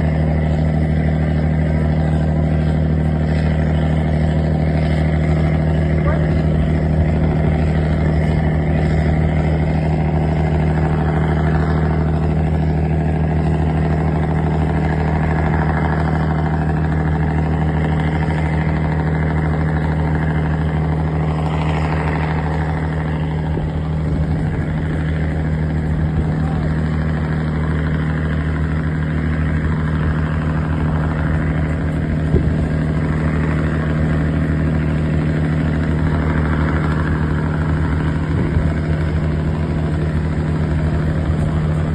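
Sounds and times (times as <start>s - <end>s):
boat engine humming: 0.0s - 41.9s.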